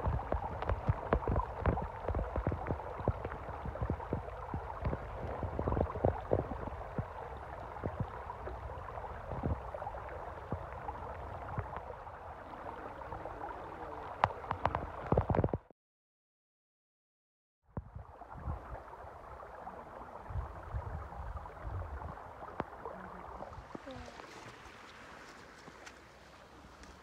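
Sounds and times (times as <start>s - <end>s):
creek babbling over rocks: 0.0s - 15.6s, 18.0s - 27.0s.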